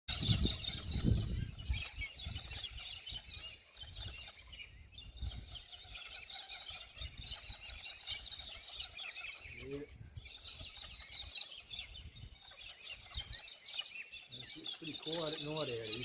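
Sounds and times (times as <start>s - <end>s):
birds chattering shrilly: 0.1s - 16.0s.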